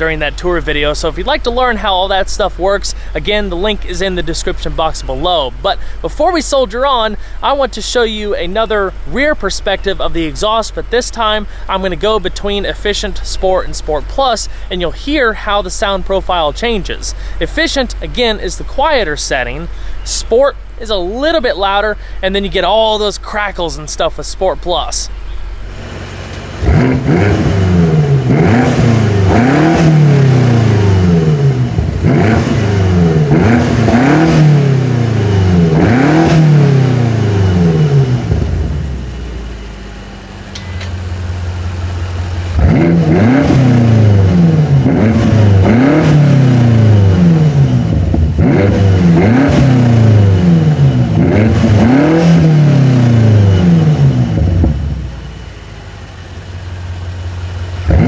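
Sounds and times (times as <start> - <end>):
car engine idling: 0.0 - 58.0
car engine revving: 0.0 - 58.0.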